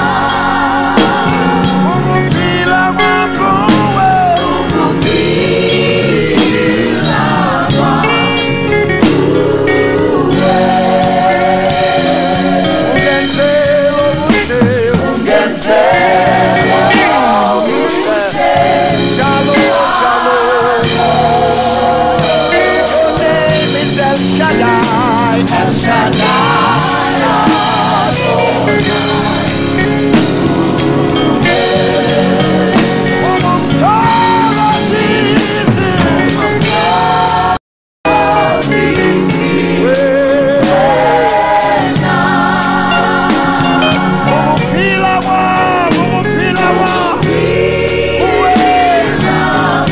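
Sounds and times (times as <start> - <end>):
backing vocalists singing: 0.0 - 49.9
band with drums: 0.0 - 49.9
lead singer singing: 0.0 - 49.9.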